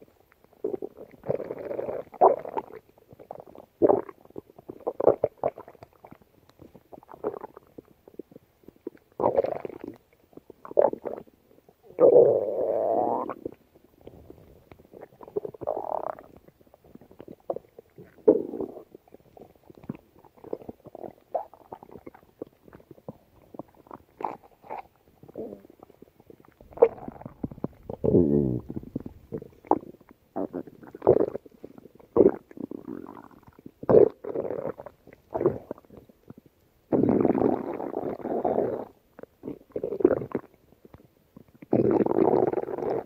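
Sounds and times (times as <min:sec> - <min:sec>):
stomach growling and gurgling: 0:00.0 - 0:43.0.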